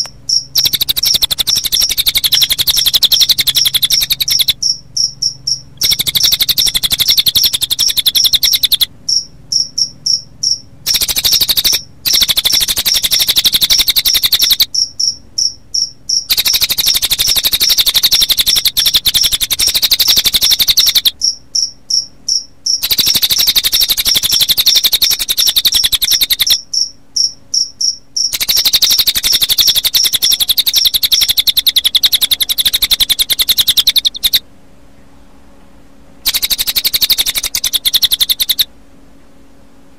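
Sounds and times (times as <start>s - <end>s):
bird trilling: 0.0s - 34.4s, 36.2s - 38.7s
crickets chirping: 0.0s - 34.4s, 36.2s - 38.7s.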